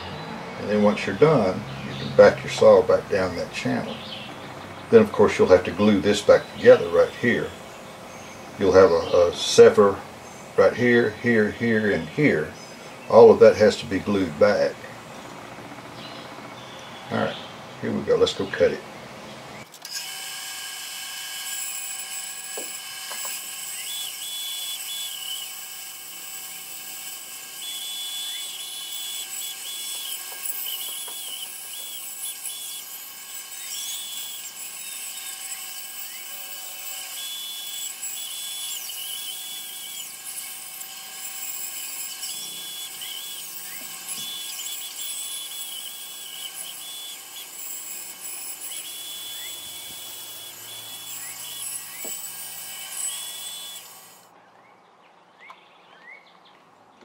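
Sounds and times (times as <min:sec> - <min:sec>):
band saw cutting wood: 0:00.0 - 0:54.3.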